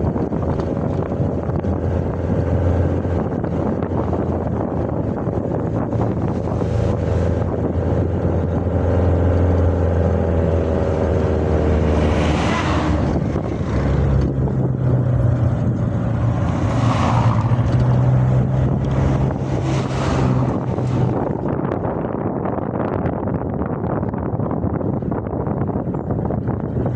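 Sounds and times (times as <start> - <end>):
engine running: 0.0 - 23.7
wind noise on microphone: 0.0 - 26.9.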